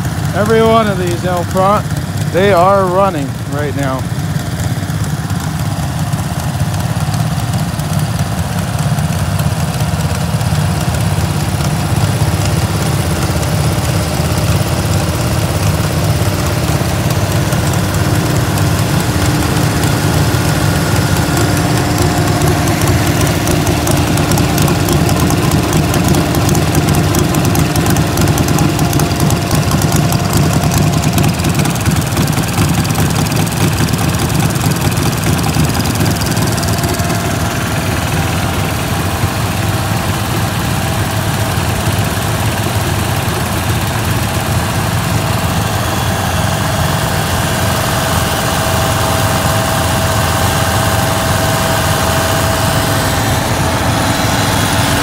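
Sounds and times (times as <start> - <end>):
small tractor engines idling: 0.0 - 55.0.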